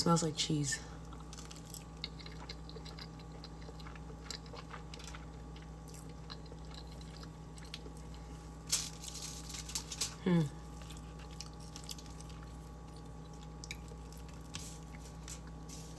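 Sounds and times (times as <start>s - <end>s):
person chewing food: 1.0s - 15.9s.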